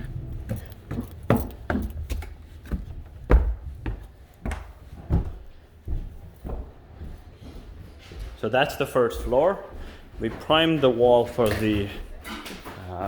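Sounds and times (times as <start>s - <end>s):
footsteps on wooden floor: 0.0s - 12.9s.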